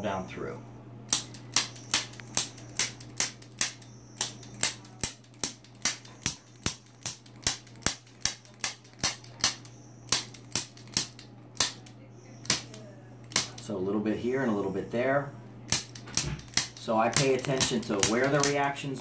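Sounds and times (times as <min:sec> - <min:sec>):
low steady hum: 0:00.0 - 0:19.0
sharp instrument clicks: 0:01.1 - 0:13.7, 0:15.7 - 0:18.8.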